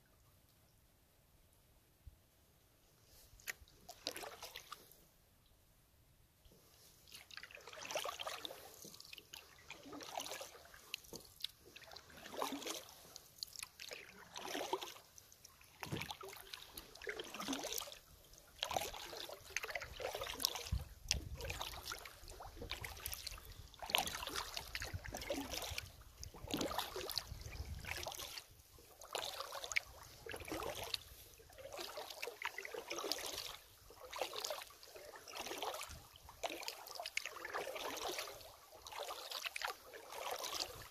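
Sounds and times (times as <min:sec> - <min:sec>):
kayak paddle splashing: 0:03.1 - 0:05.0, 0:06.5 - 0:40.9.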